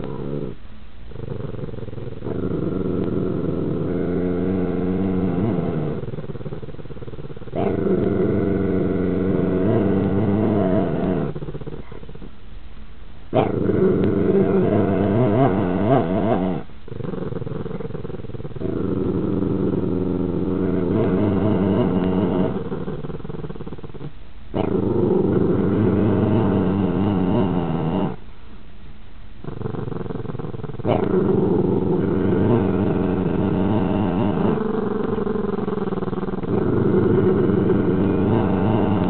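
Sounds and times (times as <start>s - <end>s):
puppy growling: 0.0s - 12.4s, 13.3s - 28.2s, 29.4s - 39.0s.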